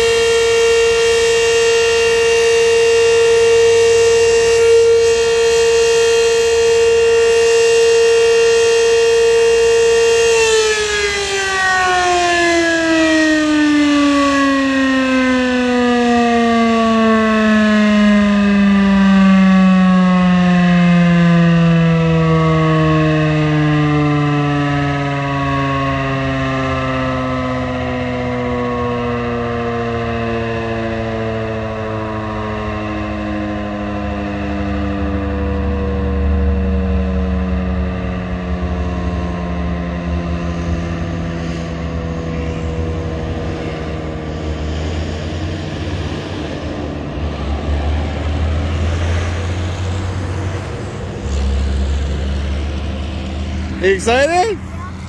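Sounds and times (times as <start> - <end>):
warning siren wailing: 0.0 - 55.0.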